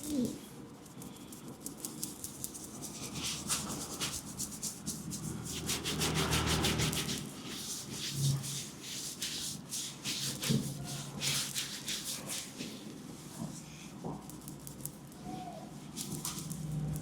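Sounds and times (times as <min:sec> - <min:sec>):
hands brushing skin in massage: 0:00.2 - 0:17.0.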